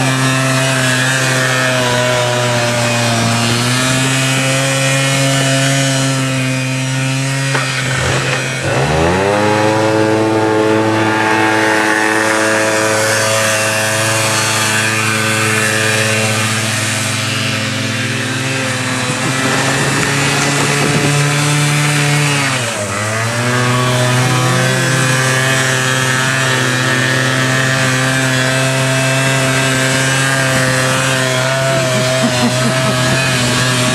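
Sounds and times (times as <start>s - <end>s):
quad bike engine revving: 0.0s - 33.9s.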